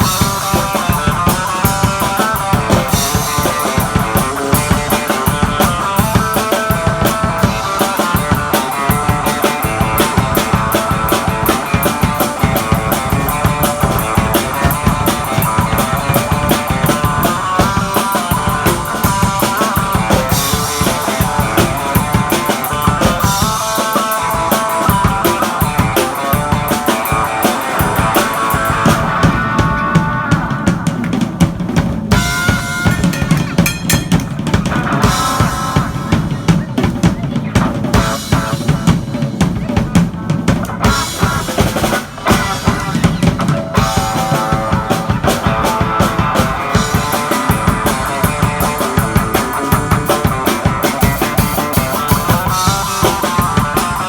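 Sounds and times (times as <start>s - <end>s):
drum kit playing: 0.0s - 54.0s
electric guitar playing rock: 0.0s - 54.0s.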